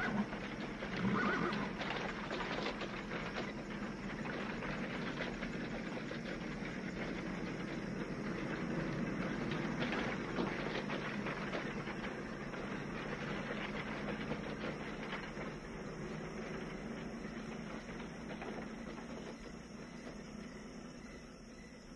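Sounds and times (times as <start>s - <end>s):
harvest machinery clattering: 0.0s - 21.2s
wagons rolling: 0.0s - 21.9s.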